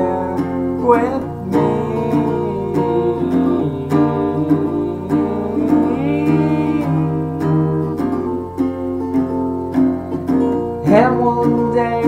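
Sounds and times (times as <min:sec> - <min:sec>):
guitar strumming: 0:00.0 - 0:12.0.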